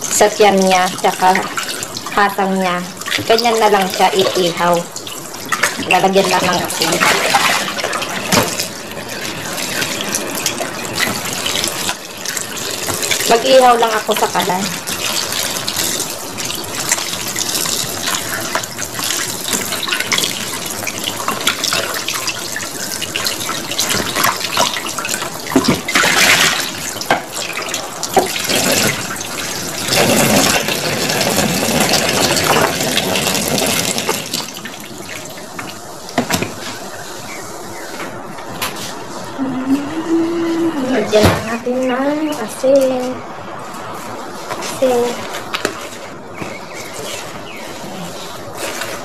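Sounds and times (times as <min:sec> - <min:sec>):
water splashing and sloshing: 0:00.0 - 0:49.0.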